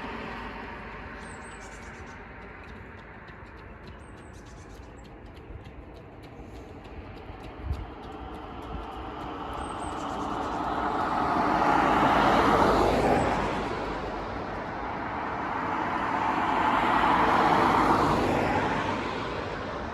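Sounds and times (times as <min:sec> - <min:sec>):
cars passing: 0:00.0 - 0:19.9.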